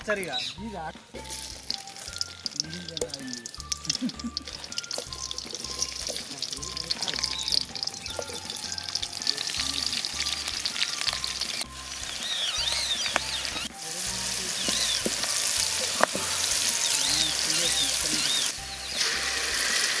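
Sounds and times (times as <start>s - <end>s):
onions sizzling in hot oil: 1.1s - 20.0s.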